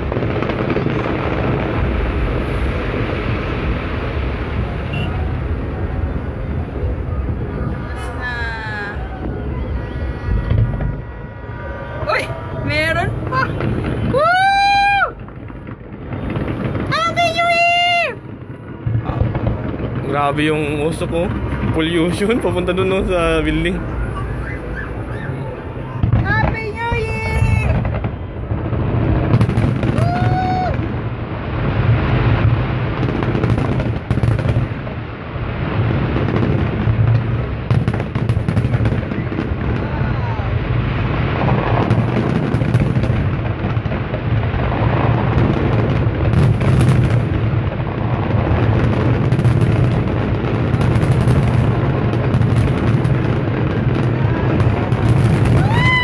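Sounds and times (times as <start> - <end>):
deep rumble: 0.0 - 56.0
fireworks booms and crackling: 0.0 - 56.0.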